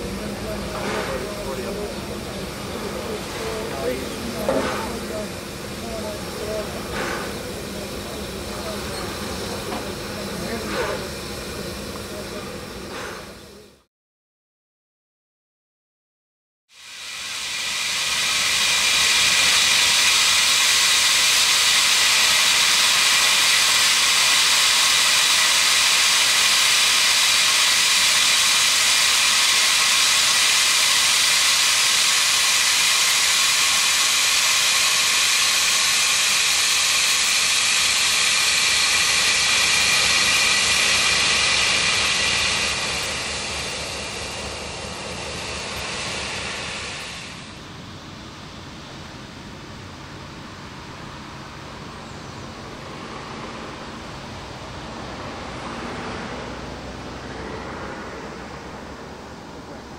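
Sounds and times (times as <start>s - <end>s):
steam locomotive hissing: 0.0s - 13.9s, 16.7s - 59.9s.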